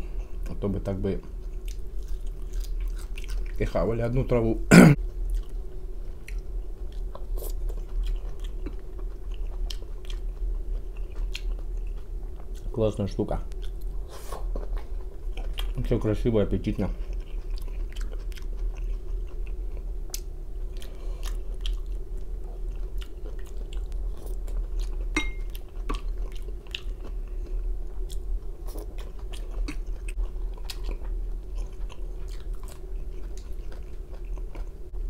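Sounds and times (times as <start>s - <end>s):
steady low hum: 0.0s - 35.0s
man chewing food: 1.3s - 3.7s, 5.0s - 12.8s, 13.5s - 16.0s, 16.6s - 35.0s.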